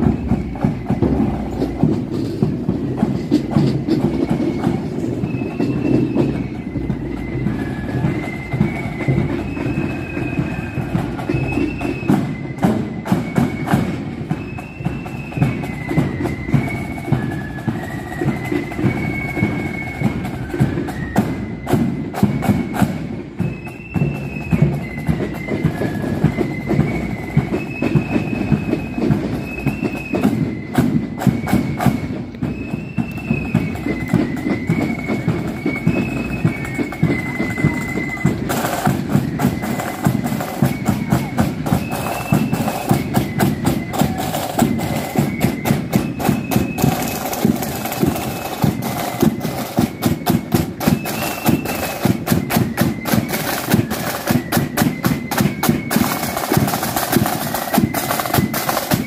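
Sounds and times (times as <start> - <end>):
snare and bass drums beat: 0.0 - 23.0, 24.0 - 59.0
high flute melody: 0.0 - 59.0.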